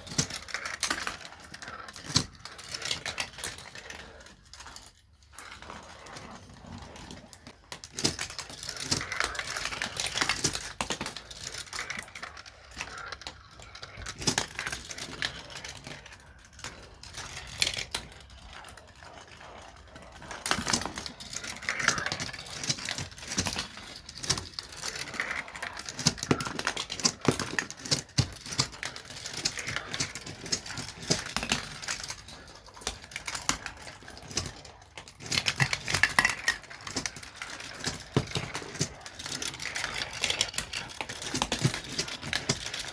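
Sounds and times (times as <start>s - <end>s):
marbles rolling and clattering: 0.0s - 42.9s.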